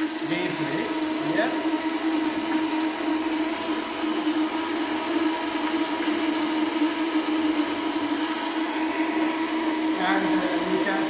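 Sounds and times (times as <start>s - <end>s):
water pump humming: 0.0s - 11.0s.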